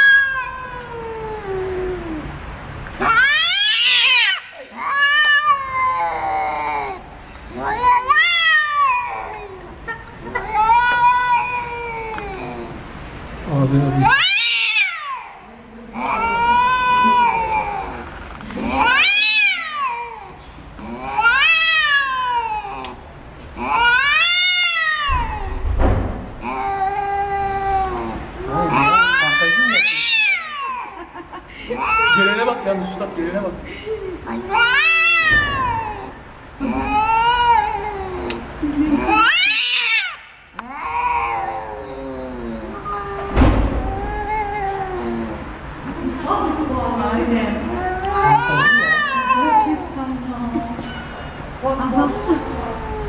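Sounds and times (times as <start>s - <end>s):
cats yowling: 0.0s - 33.4s, 34.2s - 53.0s.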